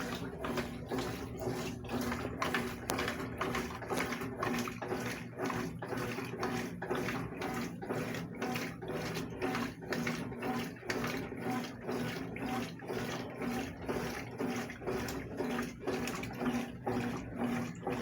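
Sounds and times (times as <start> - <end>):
washing machine motor hum: 0.0 - 18.0
water sloshing in washing machine: 0.0 - 18.0.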